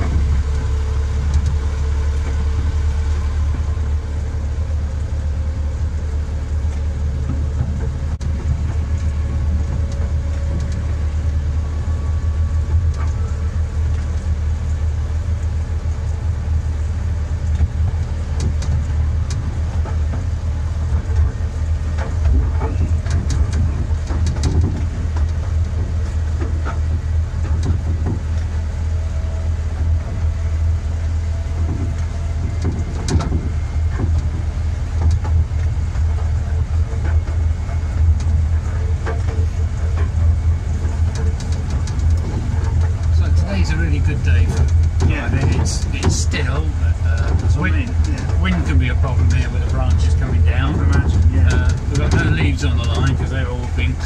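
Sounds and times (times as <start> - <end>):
locomotive drone: 0.0 - 54.0
wheels clicking over rail joints: 0.0 - 54.0.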